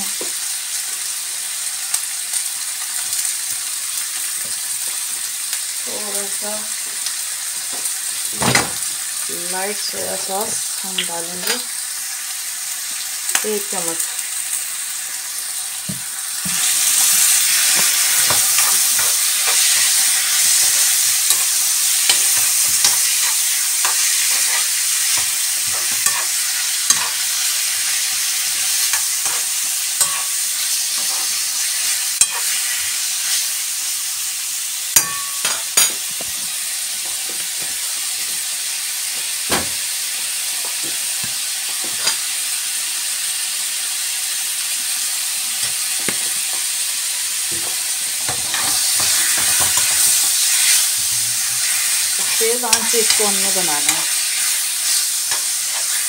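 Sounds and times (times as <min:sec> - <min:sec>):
meat and onions sizzling in pan: 0:00.0 - 0:56.0.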